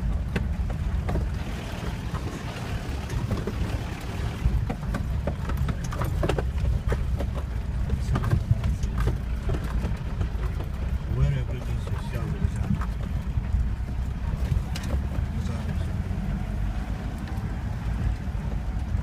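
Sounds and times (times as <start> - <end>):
knocks and rattles: 0.0 - 16.0
engine and road rumble: 0.0 - 19.0.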